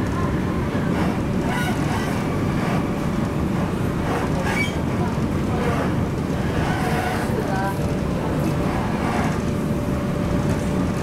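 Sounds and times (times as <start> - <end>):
train rumble from inside car: 0.0 - 11.0.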